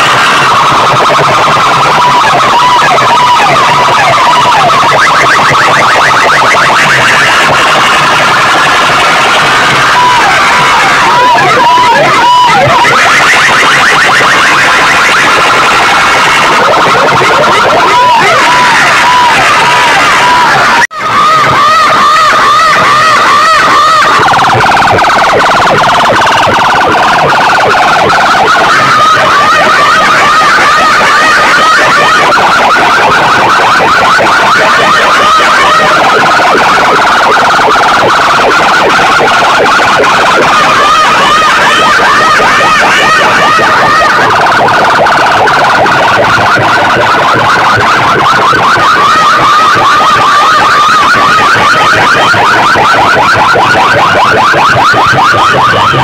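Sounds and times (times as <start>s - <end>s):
electronic siren wailing: 0.0s - 56.0s.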